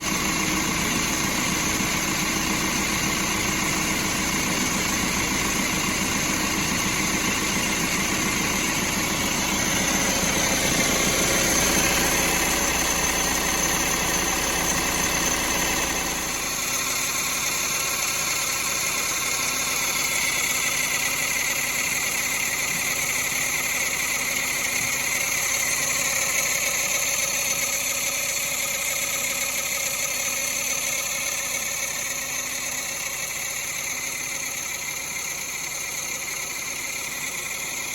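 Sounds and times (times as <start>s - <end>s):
van engine running: 0.0s - 37.9s.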